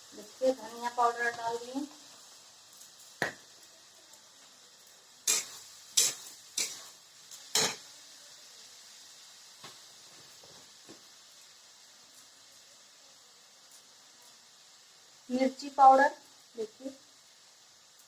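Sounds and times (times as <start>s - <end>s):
spices sizzling in oil: 0.0s - 18.0s.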